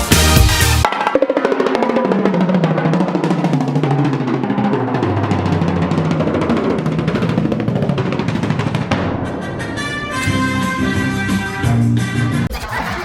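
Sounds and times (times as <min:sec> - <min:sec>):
music with rapid dense drumming: 0:00.0 - 0:13.0
bass line: 0:01.8 - 0:12.5.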